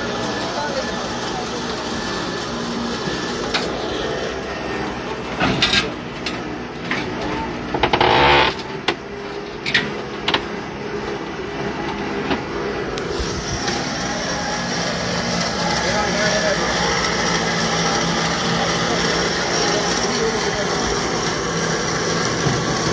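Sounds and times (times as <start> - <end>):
tow truck engine running: 0.0 - 22.9.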